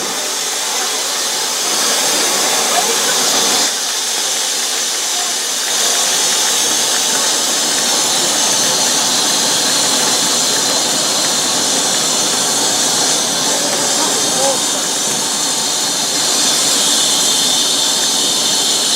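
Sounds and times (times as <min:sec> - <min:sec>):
steam locomotive hissing steam: 0:00.0 - 0:18.9.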